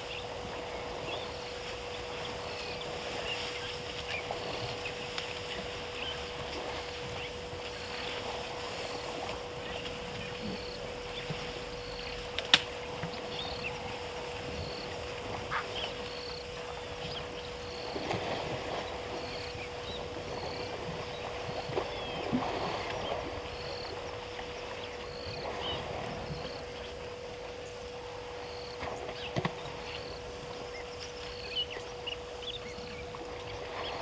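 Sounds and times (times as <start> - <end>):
steady hum: 0.0 - 34.0
water sloshing and splashing: 0.0 - 34.0.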